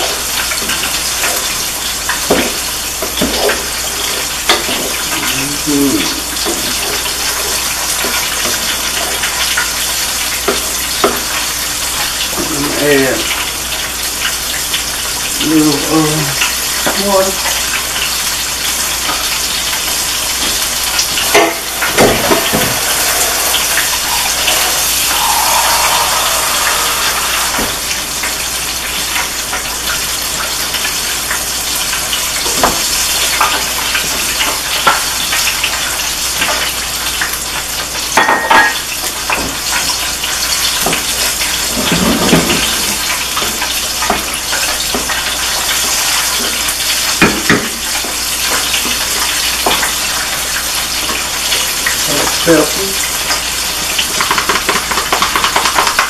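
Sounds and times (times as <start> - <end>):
food sizzling in a pot: 0.0 - 56.0.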